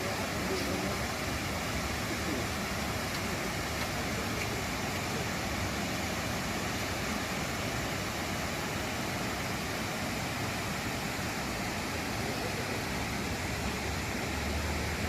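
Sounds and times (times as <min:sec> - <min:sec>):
water pouring over a dam: 0:00.0 - 0:15.0.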